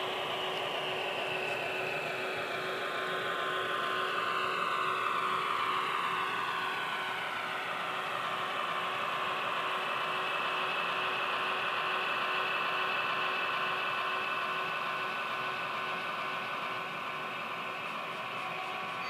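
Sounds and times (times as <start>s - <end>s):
model train motor whine: 0.0s - 19.0s.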